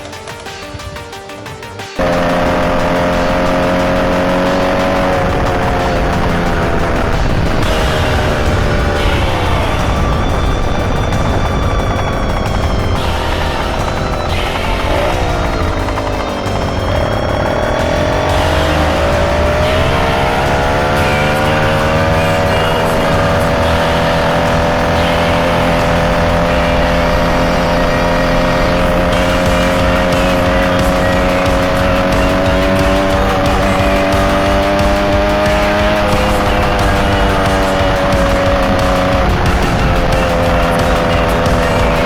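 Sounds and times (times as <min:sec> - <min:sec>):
motorcycle engine revving: 0:02.0 - 0:42.0.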